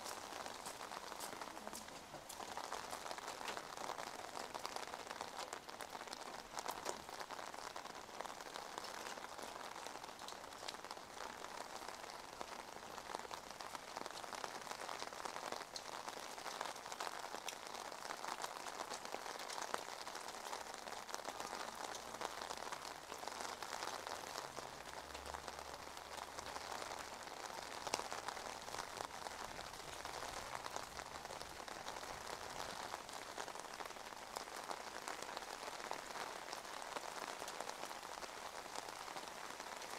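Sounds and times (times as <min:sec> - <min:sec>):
rain falling on asphalt: 0:00.0 - 0:39.9.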